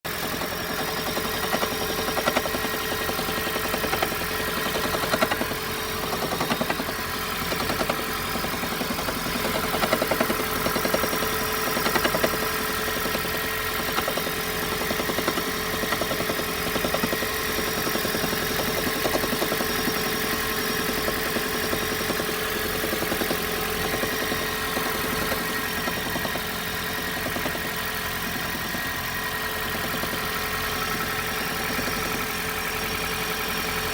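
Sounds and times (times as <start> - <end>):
car engine running: 0.1 - 33.9
fast engine rattle: 0.1 - 33.9.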